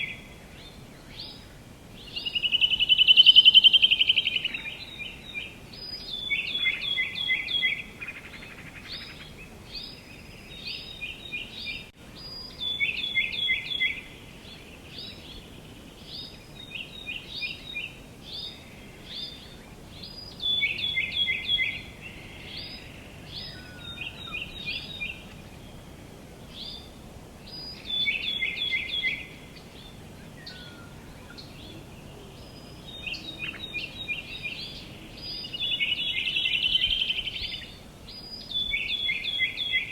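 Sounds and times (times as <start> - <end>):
faint outdoor hiss: 0.0 - 39.9
songbird singing: 0.0 - 39.9.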